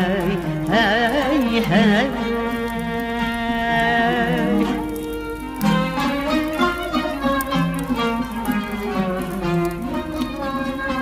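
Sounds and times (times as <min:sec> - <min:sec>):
bowed string melody with vibrato: 0:00.0 - 0:11.0.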